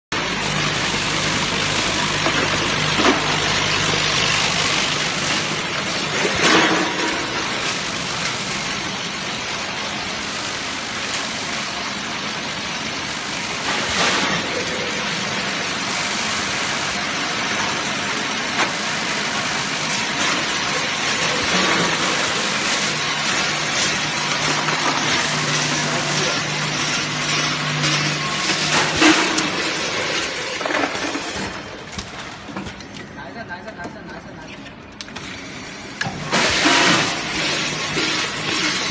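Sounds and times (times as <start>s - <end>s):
packing machine din: 0.1s - 33.2s, 35.0s - 38.9s.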